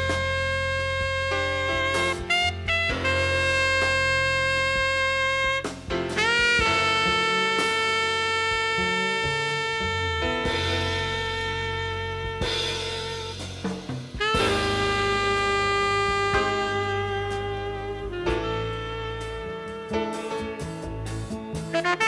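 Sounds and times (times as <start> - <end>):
bass: 0.0 - 22.0
saxophone sustained notes: 0.0 - 22.0.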